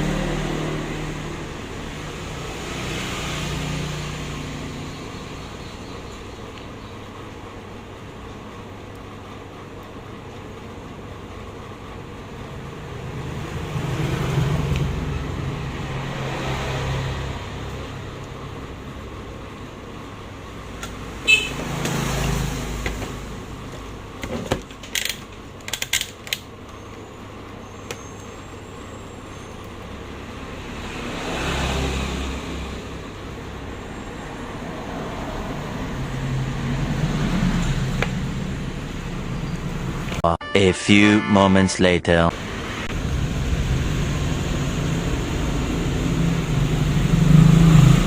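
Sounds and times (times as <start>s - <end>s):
road traffic rumble: 0.0s - 40.4s, 42.3s - 48.0s.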